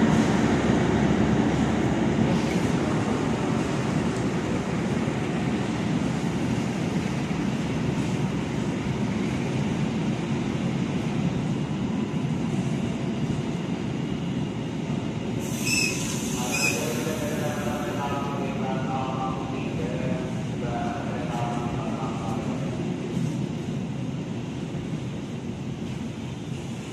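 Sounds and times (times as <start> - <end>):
train wheels rumbling on rails: 0.0 - 26.9.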